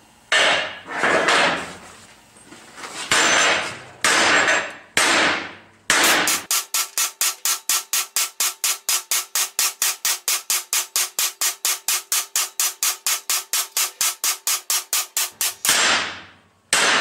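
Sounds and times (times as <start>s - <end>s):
hammer striking metal: 0.3s - 1.6s, 3.1s - 17.0s.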